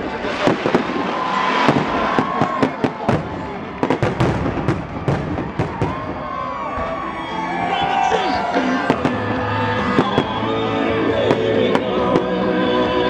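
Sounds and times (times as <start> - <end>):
fireworks bangs: 0.0 - 6.9, 7.9 - 12.4
music playing: 0.0 - 13.0.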